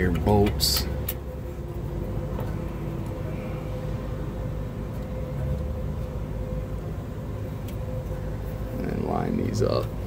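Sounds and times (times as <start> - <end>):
low mechanical hum with tone: 0.0 - 10.0.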